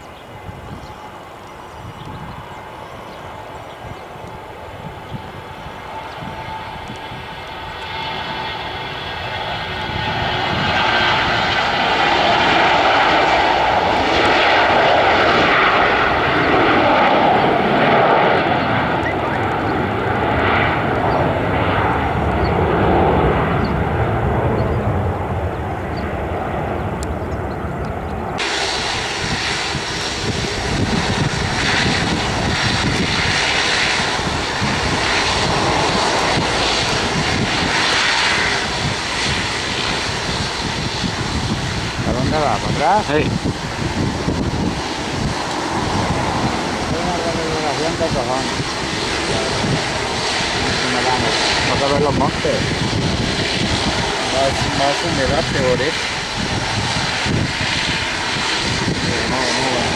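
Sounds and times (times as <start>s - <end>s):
jet engines running: 0.0s - 59.9s
jet taking off: 0.0s - 59.9s.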